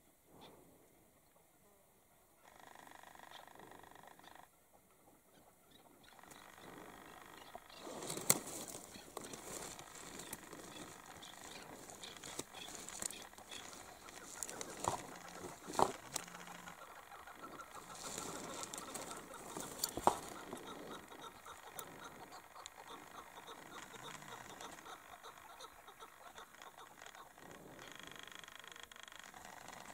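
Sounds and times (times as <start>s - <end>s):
outdoor hush: 0.0s - 29.9s
partridge calls: 2.4s - 29.9s.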